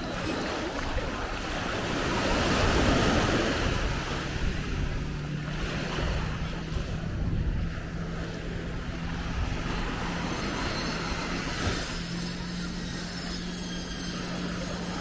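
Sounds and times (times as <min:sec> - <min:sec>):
low rumbling wash: 0:00.0 - 0:15.0
motor droning: 0:00.0 - 0:15.0.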